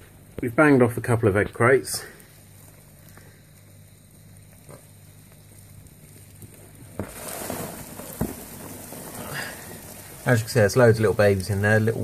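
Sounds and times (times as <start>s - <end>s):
crackling rustle of cockroaches: 0.0s - 12.0s
faint low hum: 0.0s - 12.0s.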